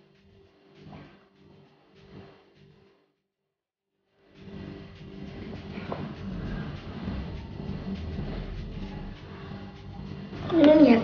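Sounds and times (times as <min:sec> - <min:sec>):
faint background music: 0:00.0 - 0:03.2, 0:04.0 - 0:11.0.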